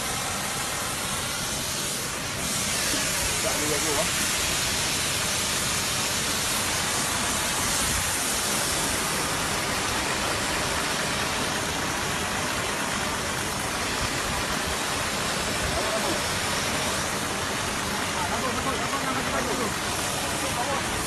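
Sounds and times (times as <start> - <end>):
sprayer hissing: 0.0 - 21.0.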